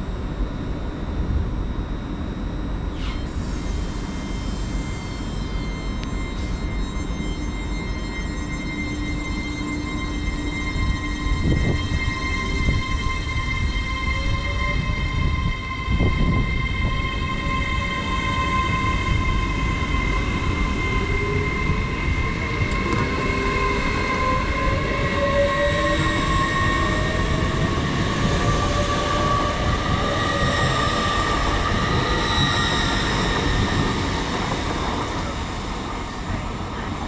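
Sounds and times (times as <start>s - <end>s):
train traction whine: 0.0s - 37.0s.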